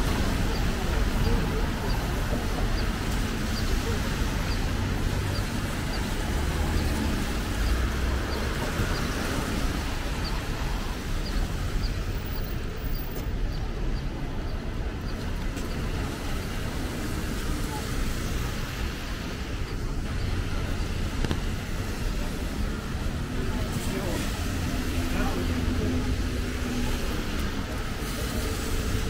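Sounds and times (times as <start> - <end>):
car engines rumbling: 0.0 - 29.0
tyres hissing on wet road: 0.0 - 29.0.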